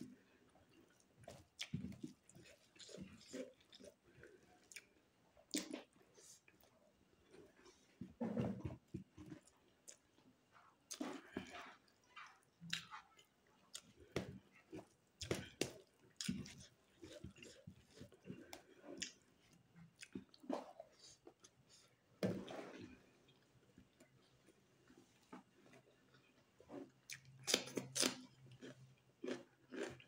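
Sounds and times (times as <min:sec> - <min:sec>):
wet chewing and mouth smacks: 0:00.7 - 0:07.4, 0:09.0 - 0:22.0, 0:22.8 - 0:30.0.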